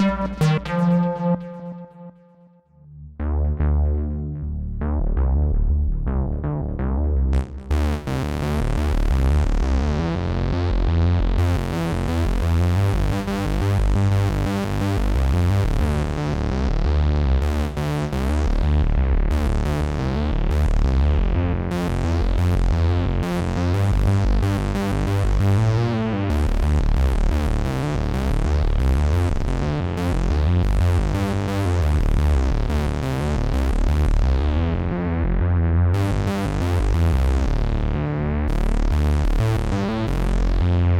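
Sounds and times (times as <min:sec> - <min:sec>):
synthesizer bass line: 0:00.0 - 0:40.9.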